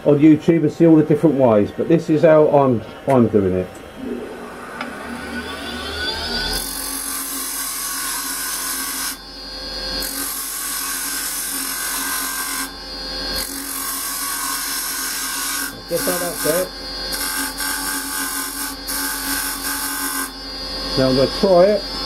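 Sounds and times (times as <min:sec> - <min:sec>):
wood lathe whining: 0:04.0 - 0:22.0.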